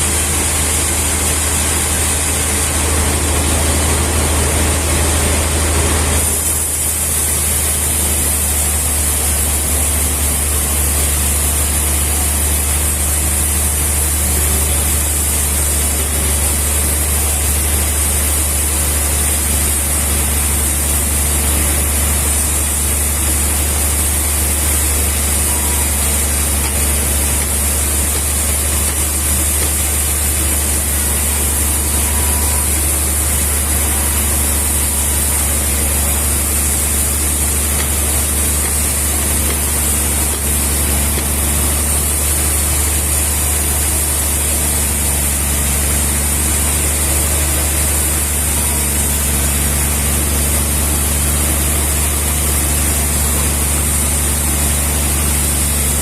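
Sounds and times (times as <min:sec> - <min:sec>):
machine engine running: 0:00.0 - 0:56.0.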